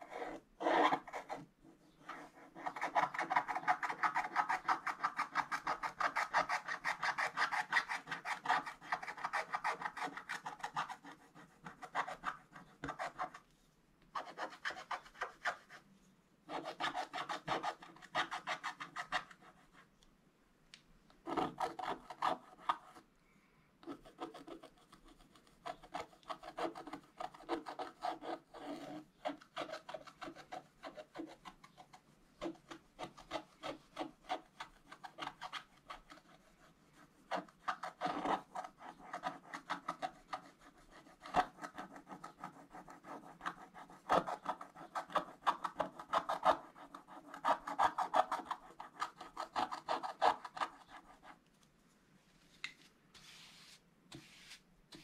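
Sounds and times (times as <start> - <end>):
stylus scraping scratch-art page: 0.0 - 13.4, 14.2 - 15.8, 23.9 - 51.4, 53.1 - 55.0.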